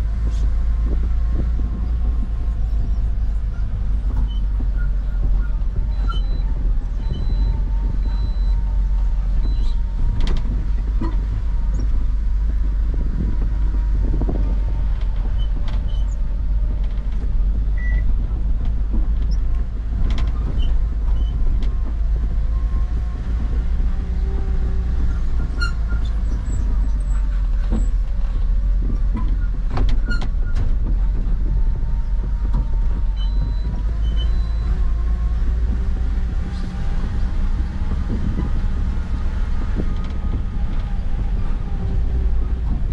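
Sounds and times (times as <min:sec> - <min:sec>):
truck engine rumbling: 0:00.0 - 0:42.9.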